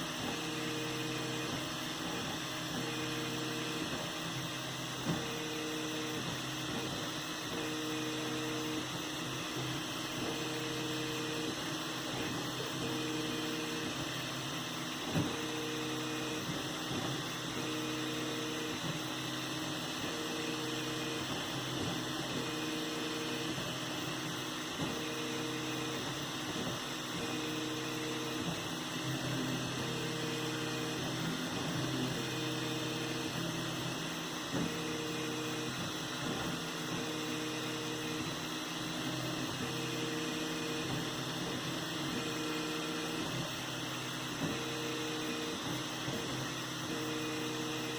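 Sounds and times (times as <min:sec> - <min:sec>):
steady printer hum: 0:00.0 - 0:47.9
stepper motor pitched tones: 0:00.0 - 0:47.9.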